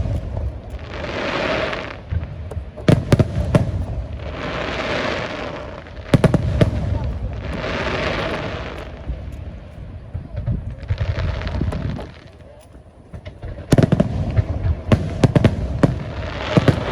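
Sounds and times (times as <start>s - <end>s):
fireworks bangs: 0.0s - 12.3s, 13.1s - 16.9s.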